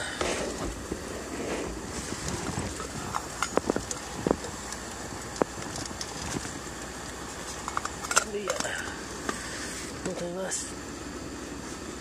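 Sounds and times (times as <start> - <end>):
low background rush: 0.0 - 12.0.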